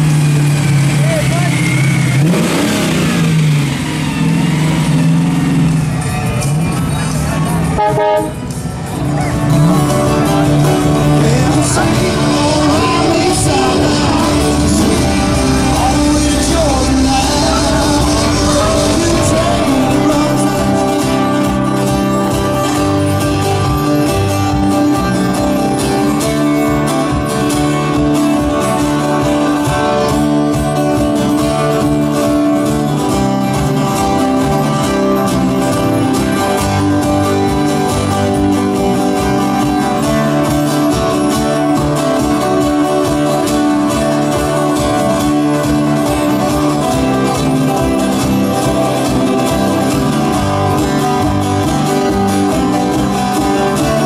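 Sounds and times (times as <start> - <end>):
live band playing instrumental: 0.0 - 54.0.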